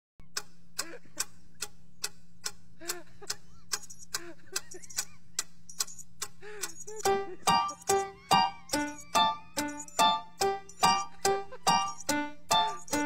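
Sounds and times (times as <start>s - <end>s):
clock-like ticking: 0.2s - 13.0s
faint steady hum: 0.2s - 13.0s.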